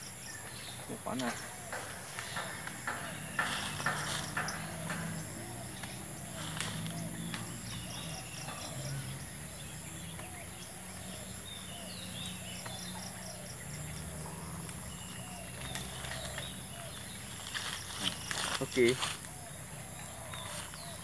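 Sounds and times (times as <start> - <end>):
bird chirps: 0.0 - 21.0
insects chirping: 0.0 - 21.0.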